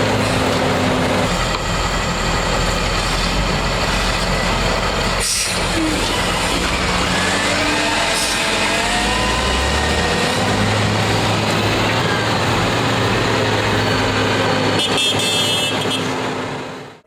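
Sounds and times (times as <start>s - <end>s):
high rattle: 0.0s - 14.8s
heavy vehicle engine running: 0.0s - 17.0s.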